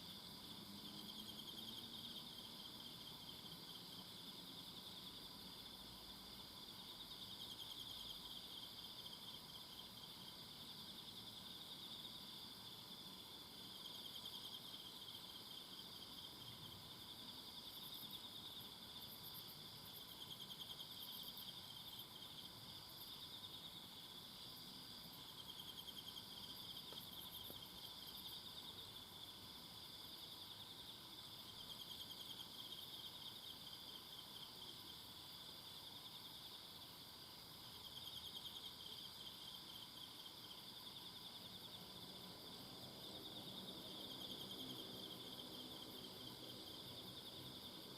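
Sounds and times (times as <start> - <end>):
high insect chirps: 0.0 - 47.9
insects trilling: 0.0 - 47.9.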